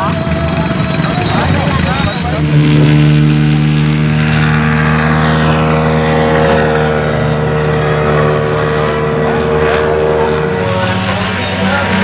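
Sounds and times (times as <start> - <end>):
model plane engine droning: 0.0 - 12.0.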